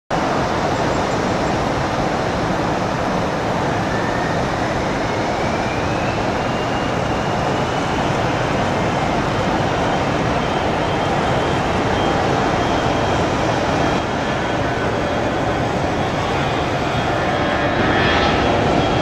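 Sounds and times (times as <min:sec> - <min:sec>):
jet engine rush: 0:00.1 - 0:19.0
thin rising engine whine: 0:03.1 - 0:19.0.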